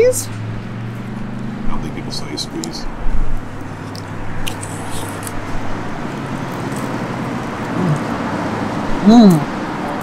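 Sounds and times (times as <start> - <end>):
engine running nearby: 0.0 - 10.0
outdoor traffic noise: 0.0 - 10.0.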